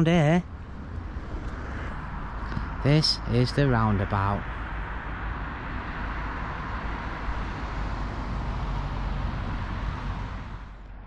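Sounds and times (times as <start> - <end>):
car driving with tyre noise: 0.0 - 11.0
low rumble: 0.0 - 11.0.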